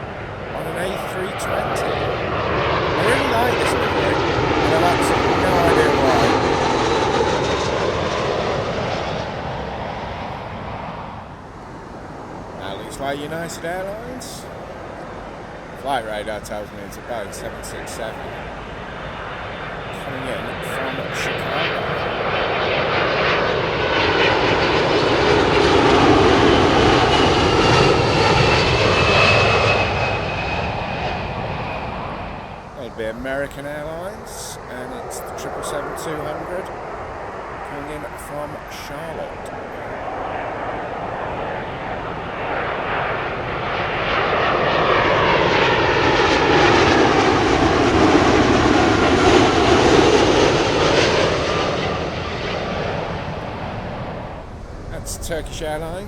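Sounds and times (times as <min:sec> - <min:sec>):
high fan whine: 0:00.0 - 0:56.0
jet engine noise: 0:00.0 - 0:56.0.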